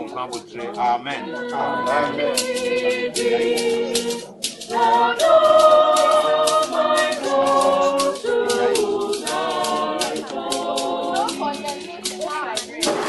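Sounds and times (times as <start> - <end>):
group singing long notes: 0.0 - 13.0
rhythmic percussion beat: 0.0 - 13.0.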